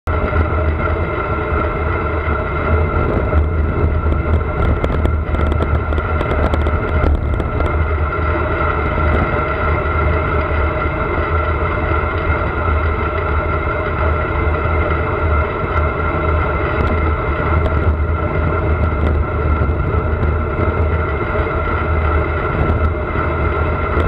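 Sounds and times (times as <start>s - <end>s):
road rumble: 0.0s - 24.0s
bicycle ticks and rattles: 0.1s - 24.0s
wind on microphone: 0.1s - 24.0s.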